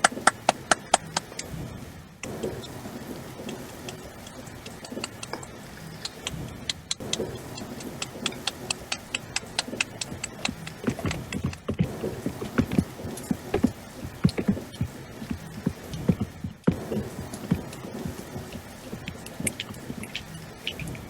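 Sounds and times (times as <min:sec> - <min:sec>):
hands patting and tapping: 0:03.5 - 0:05.4, 0:06.0 - 0:21.0.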